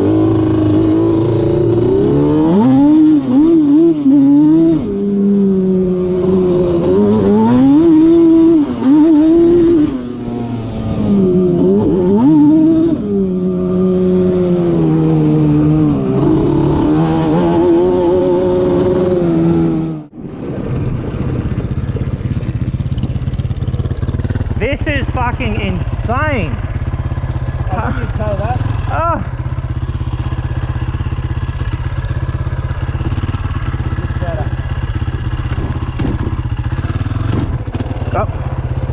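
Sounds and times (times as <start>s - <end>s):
two-stroke engine revving: 0.0s - 20.1s, 21.8s - 38.9s.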